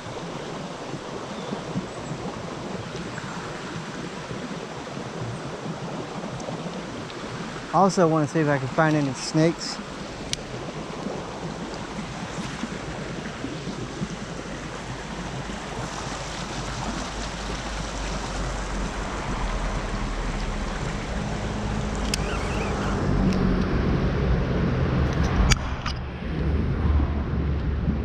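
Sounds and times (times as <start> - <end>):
water rushing over rocks: 0.0 - 28.0
wind buffeting microphone: 0.0 - 28.0.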